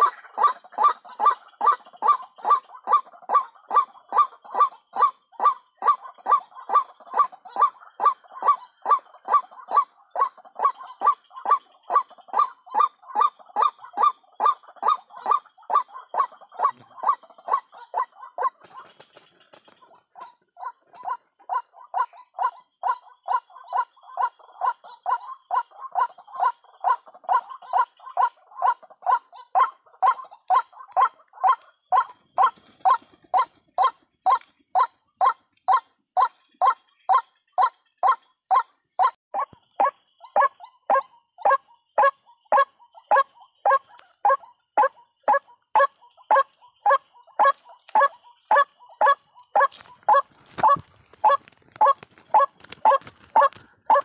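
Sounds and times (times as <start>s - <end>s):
bird harsh repeated calls: 0.0s - 54.0s
high insect trill: 0.0s - 54.0s.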